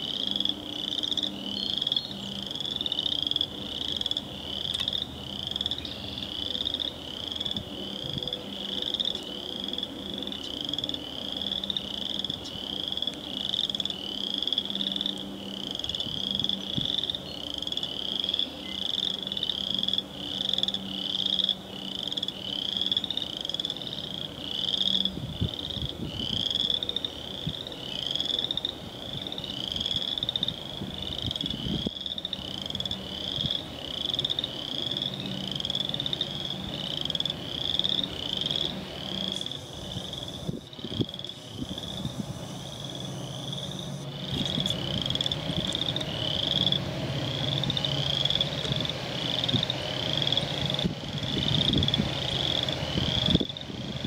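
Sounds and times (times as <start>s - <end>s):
diesel locomotive drone: 0.0s - 54.0s
frogs peeping: 0.0s - 54.0s.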